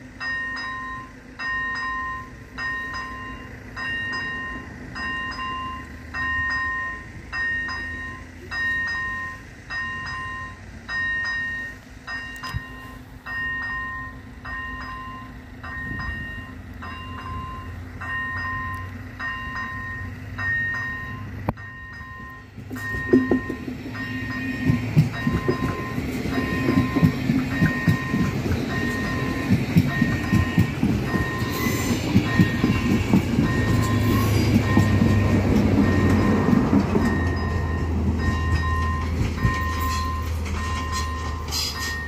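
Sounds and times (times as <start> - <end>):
level crossing warning bell: 0.0 - 42.0.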